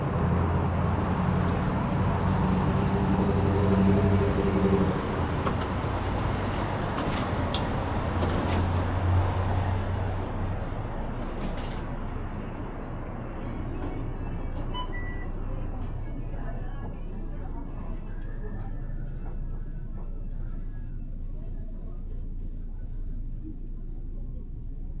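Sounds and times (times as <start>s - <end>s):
road traffic noise: 0.0s - 24.9s
vehicle engine humming: 0.0s - 25.0s.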